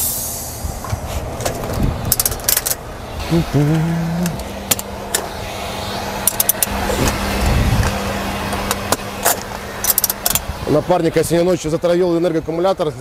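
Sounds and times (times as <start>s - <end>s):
heavy low rumble: 0.0s - 12.5s
vehicle engine hum: 0.0s - 13.0s.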